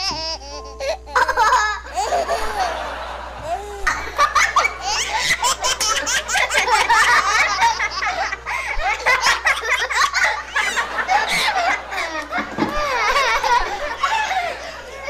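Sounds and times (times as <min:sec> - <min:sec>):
boy laughing: 0:00.0 - 0:15.0
woman laughing: 0:01.2 - 0:15.0.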